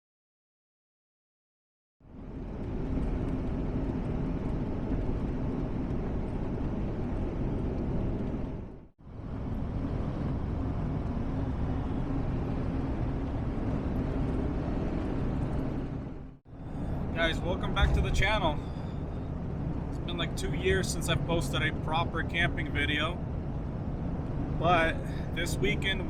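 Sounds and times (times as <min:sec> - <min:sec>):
car road and engine rumble: 0:02.0 - 0:26.0.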